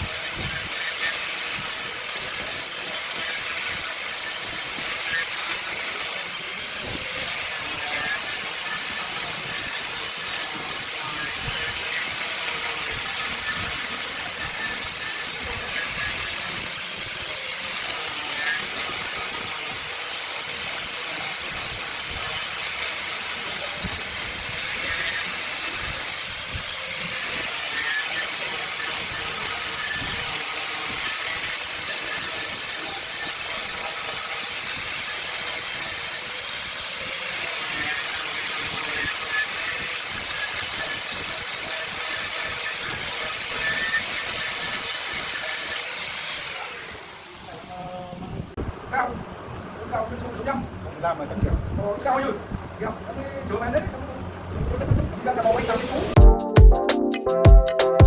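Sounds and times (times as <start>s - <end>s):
wood lathe tool hissing on log: 0.0s - 48.6s, 55.0s - 56.2s.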